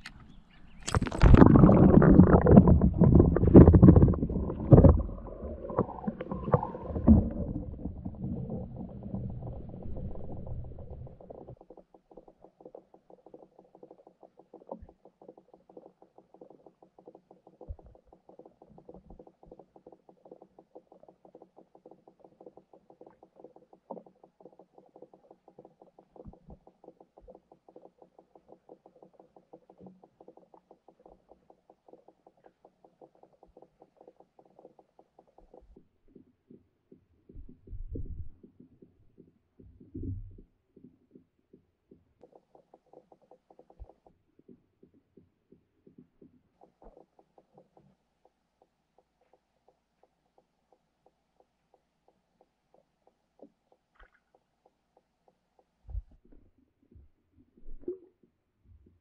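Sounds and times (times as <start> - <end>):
muffled underwater ticks and knocks: 0.0 - 59.0.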